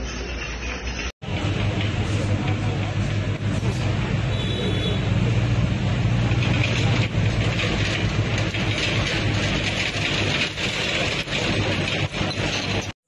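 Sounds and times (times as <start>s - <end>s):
excavator diesel hum: 0.0s - 13.0s
metallic clatter and clanks: 0.0s - 13.0s.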